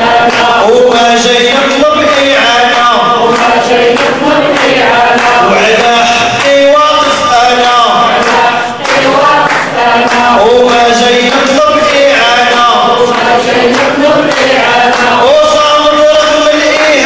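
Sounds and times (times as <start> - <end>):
man chanting through loudspeaker: 0.0 - 8.8, 10.2 - 17.0.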